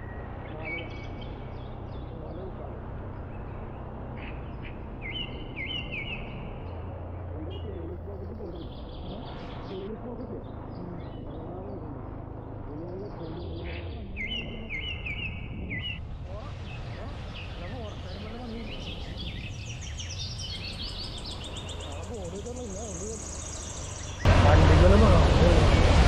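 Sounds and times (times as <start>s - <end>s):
low steady rumble: 0.0s - 26.0s
bird rising chirps: 3.1s - 24.3s.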